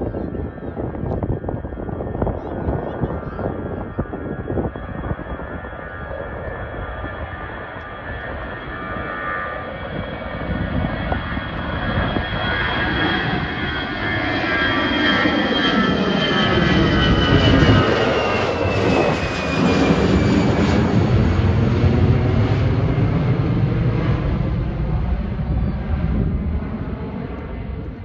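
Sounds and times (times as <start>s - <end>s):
jet engine rumble: 0.0s - 28.0s
high jet whine falling in pitch: 0.4s - 28.0s.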